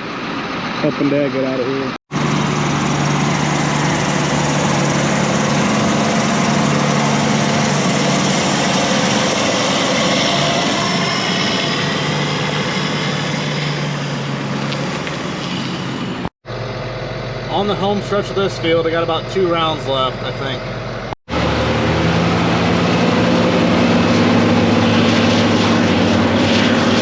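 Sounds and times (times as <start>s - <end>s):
large engine droning under load: 0.0s - 27.0s.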